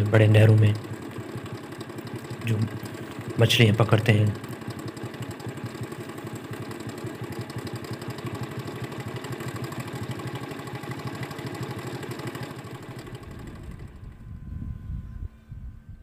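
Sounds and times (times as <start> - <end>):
small engine idling: 0.0 - 14.6.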